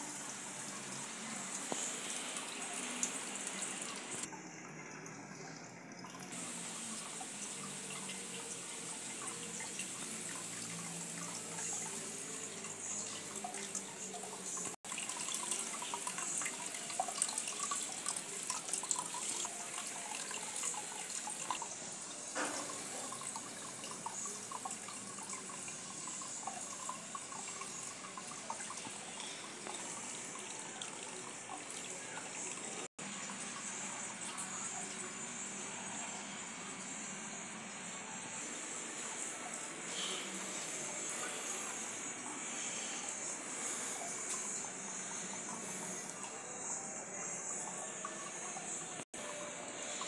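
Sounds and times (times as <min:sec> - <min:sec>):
water trickling into basin: 0:00.0 - 0:50.0.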